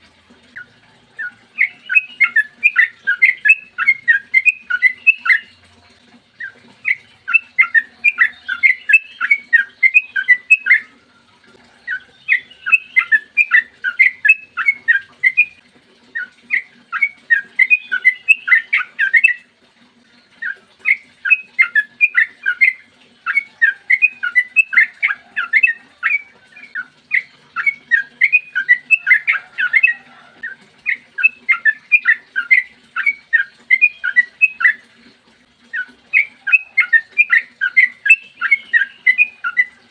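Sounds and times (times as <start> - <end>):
bird chattering song: 0.6 - 5.6, 6.4 - 11.0, 11.8 - 19.4, 20.2 - 34.9, 35.7 - 39.8.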